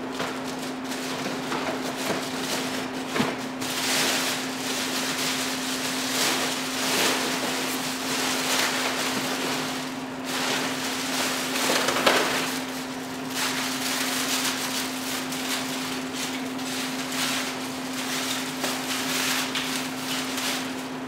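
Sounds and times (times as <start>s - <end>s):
plastic bags rustling and crinkling: 0.0s - 21.0s.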